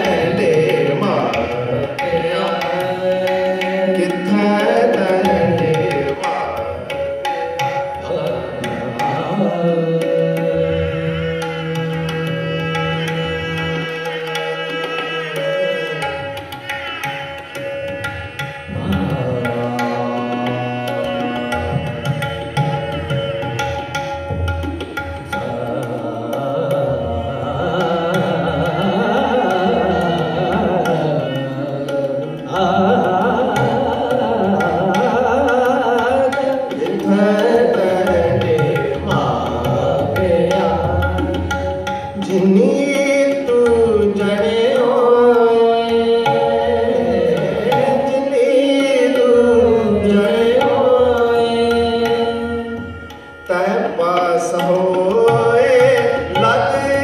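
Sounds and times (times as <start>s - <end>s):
hand drums: 0.0s - 26.7s, 27.6s - 57.0s
bowed string melody: 0.0s - 57.0s.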